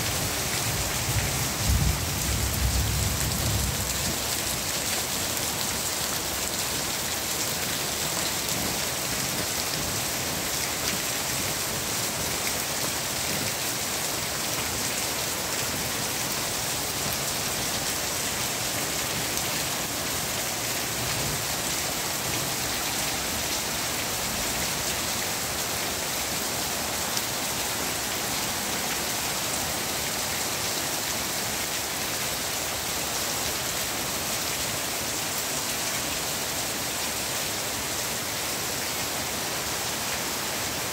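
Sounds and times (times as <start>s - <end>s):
heavy rain: 0.0s - 40.9s
rain splashing into water basin: 0.0s - 40.9s.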